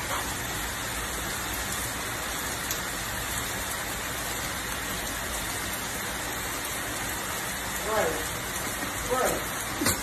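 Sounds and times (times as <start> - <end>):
heavy rain on wet pavement: 0.0 - 10.0.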